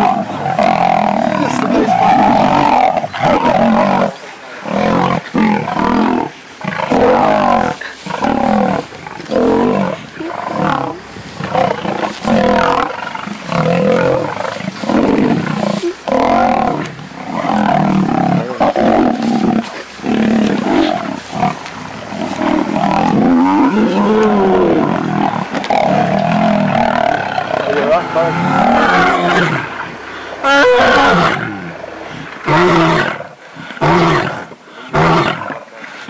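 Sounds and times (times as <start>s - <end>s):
lions growling and roaring: 0.0s - 35.8s.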